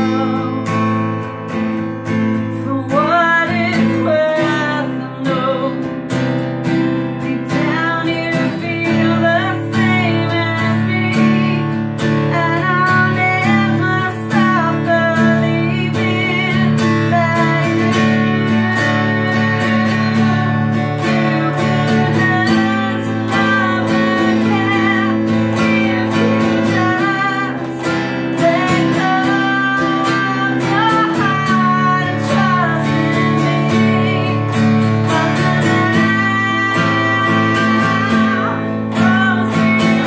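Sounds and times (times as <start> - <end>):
acoustic guitar strumming: 0.0 - 40.0
woman singing: 0.0 - 40.0.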